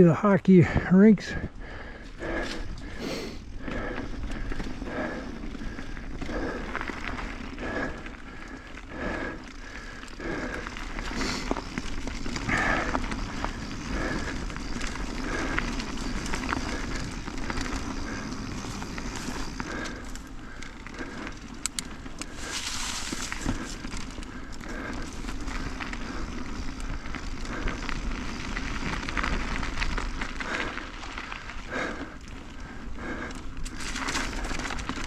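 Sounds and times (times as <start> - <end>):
bike tyres rolling on dirt trail: 0.0 - 35.0.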